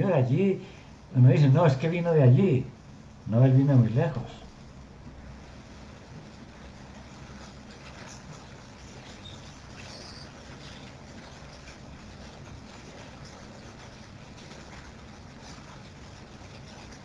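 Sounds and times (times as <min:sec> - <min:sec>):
call line hum and hiss: 0:00.0 - 0:17.0.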